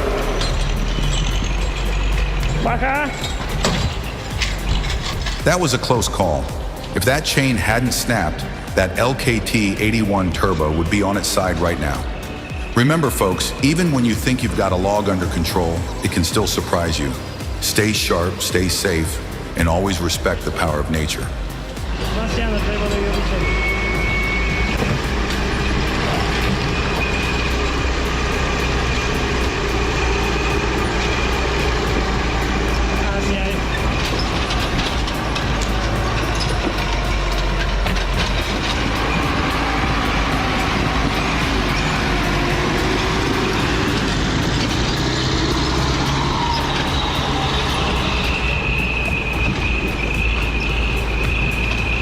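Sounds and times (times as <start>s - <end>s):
heavy machine engine running: 0.0s - 52.0s
high whine: 0.0s - 52.0s.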